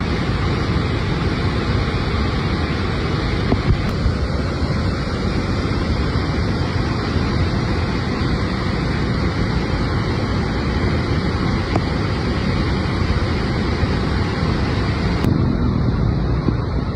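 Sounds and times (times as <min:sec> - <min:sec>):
water rushing over a weir: 0:00.0 - 0:16.9.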